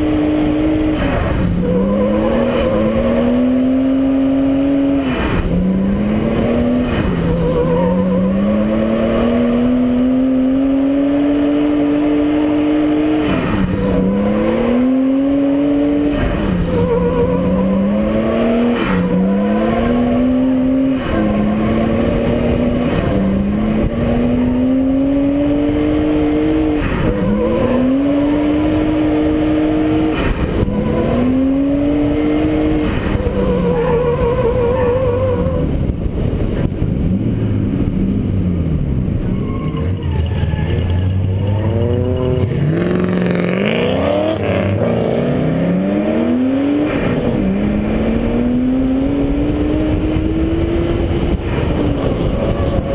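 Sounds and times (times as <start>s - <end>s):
car engine revving hard: 0.0s - 38.9s, 41.4s - 52.9s.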